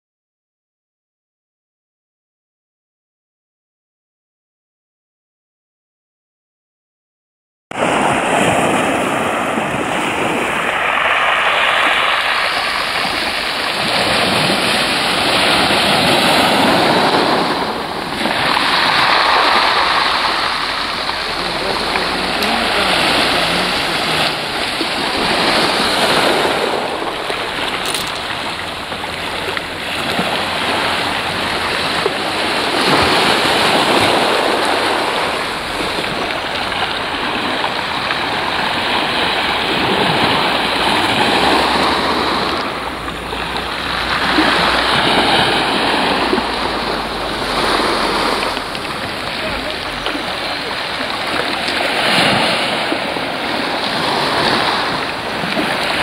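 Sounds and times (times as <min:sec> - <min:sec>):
waves washing onto pebble beach: 0:07.8 - 0:56.0.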